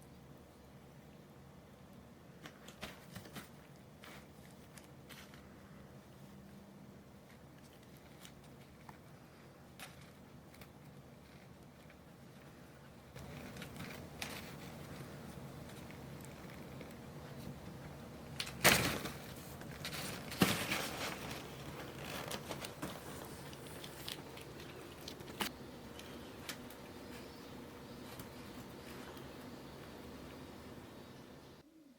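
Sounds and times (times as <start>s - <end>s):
rustling and crinkling: 2.3s - 30.9s
kittens scuffling: 2.4s - 30.8s.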